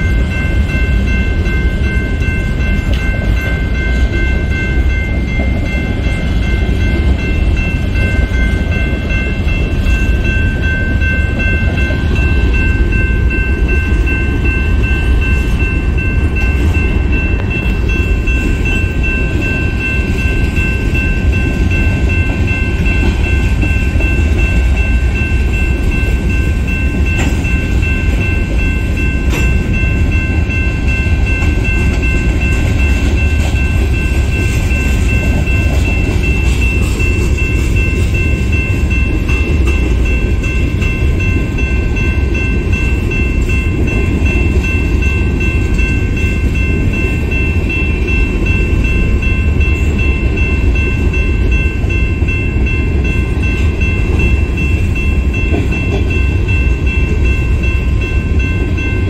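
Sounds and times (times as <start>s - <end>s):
high ringing tones: 0.0s - 59.0s
steel wheels rumbling on rail: 0.0s - 59.0s.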